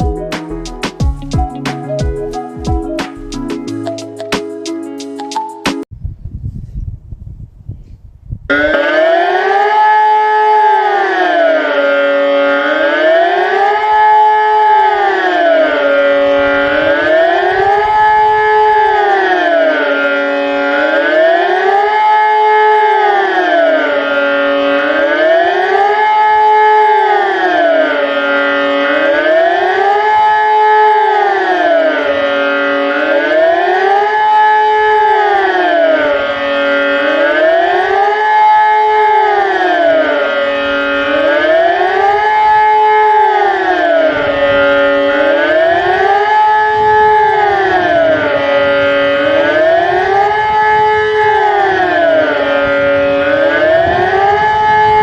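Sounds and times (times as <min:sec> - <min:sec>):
siren wailing: 0:00.0 - 0:05.8, 0:08.5 - 0:55.0.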